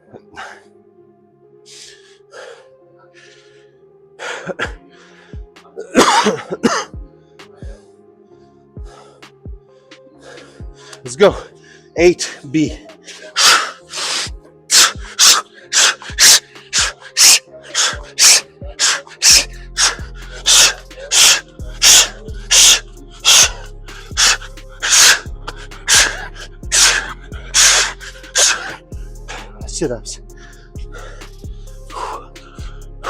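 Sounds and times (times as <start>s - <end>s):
background music with bass: 1.5s - 33.0s.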